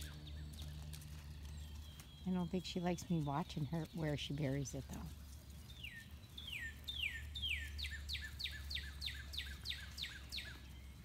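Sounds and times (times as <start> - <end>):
songbird whistling and trilling: 0.0 - 4.4, 5.5 - 11.0.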